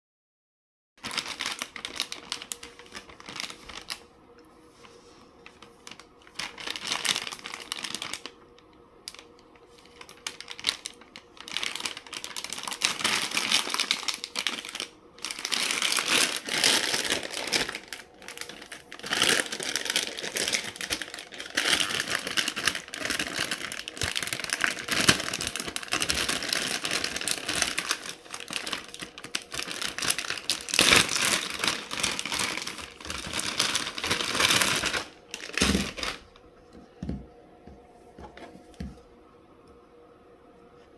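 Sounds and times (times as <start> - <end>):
plastic bag crinkling and tearing: 1.0 - 4.1, 4.9 - 36.5.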